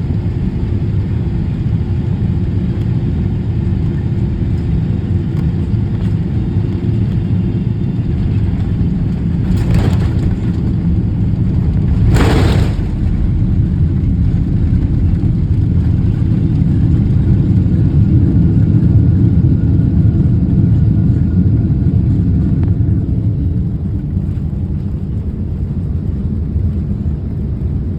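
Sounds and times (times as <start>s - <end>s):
airplane landing rumble: 0.0s - 27.9s.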